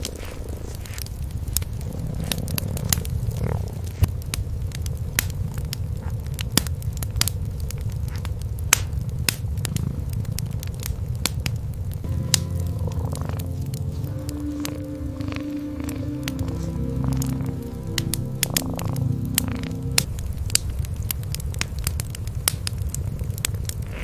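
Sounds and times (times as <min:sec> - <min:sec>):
cats purring: 0:00.0 - 0:06.6, 0:07.6 - 0:20.2, 0:22.4 - 0:24.0
wood fire crackling: 0:00.0 - 0:24.0
sharp pops of fire: 0:03.9 - 0:24.0.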